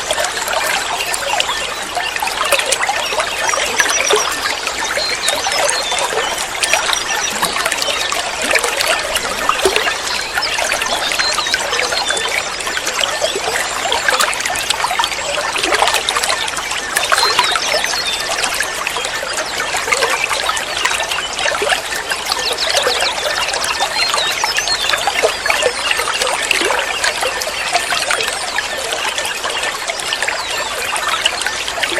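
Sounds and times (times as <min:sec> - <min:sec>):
water trickling and splashing: 0:00.0 - 0:31.9.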